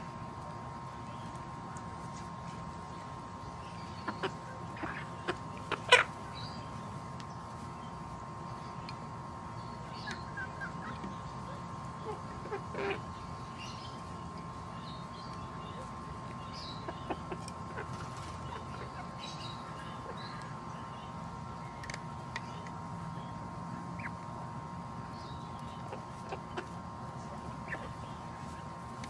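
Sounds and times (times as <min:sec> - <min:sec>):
hens chirping and calling: 0:00.0 - 0:29.0.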